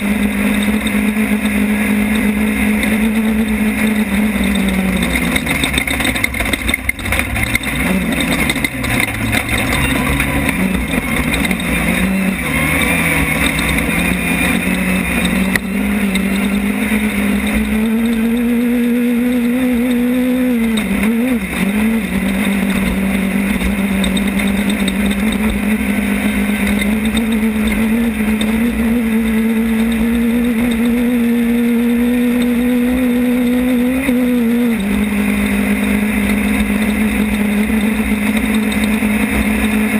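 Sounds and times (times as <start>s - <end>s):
constant rushing noise: 0.0s - 39.9s
race car engine revving: 0.0s - 39.9s.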